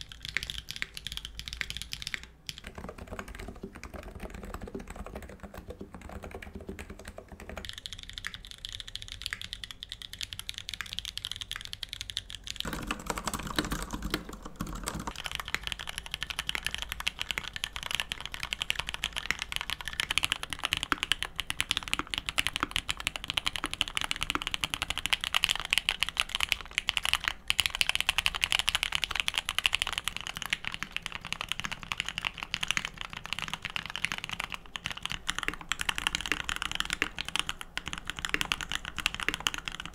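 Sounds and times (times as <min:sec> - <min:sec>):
fast typing on keyboards: 0:00.0 - 0:39.9.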